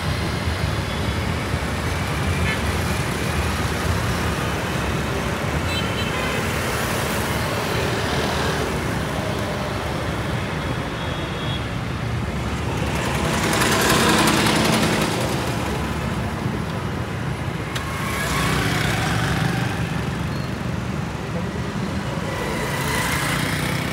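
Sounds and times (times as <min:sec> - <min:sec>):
traffic rumble: 0:00.0 - 0:23.9
vehicles passing: 0:00.0 - 0:23.9.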